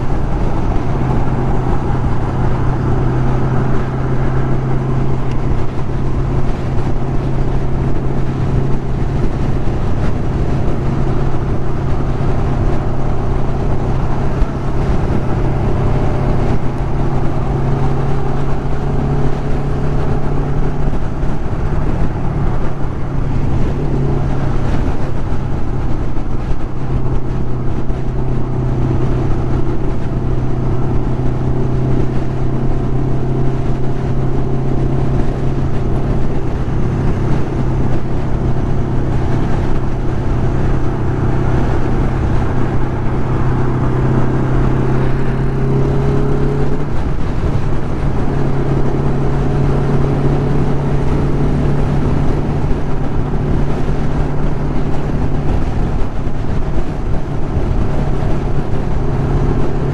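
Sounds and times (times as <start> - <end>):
heavy wind rush: 0.0 - 59.9
motorcycle engine cruising: 0.0 - 59.9.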